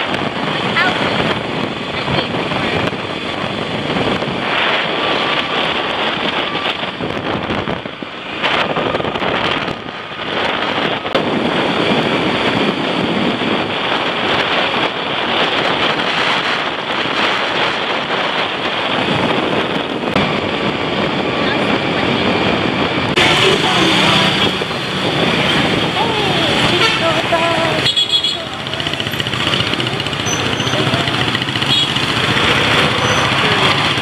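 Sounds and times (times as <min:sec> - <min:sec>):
road and traffic noise: 0:00.0 - 0:34.0
wind buffeting microphone: 0:00.0 - 0:34.0.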